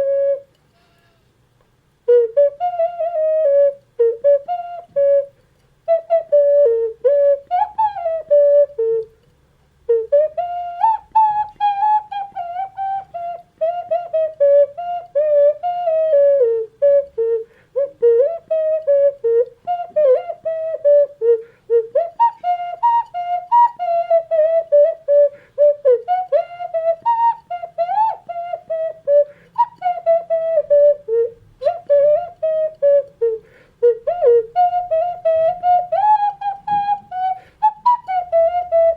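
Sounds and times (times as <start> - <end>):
ocarina playing a melody: 0.0 - 1.3, 2.0 - 38.9.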